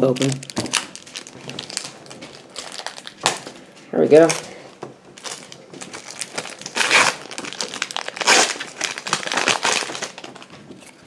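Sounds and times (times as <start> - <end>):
foil wrapper crinkling and tearing: 0.0 - 3.6, 5.2 - 10.9.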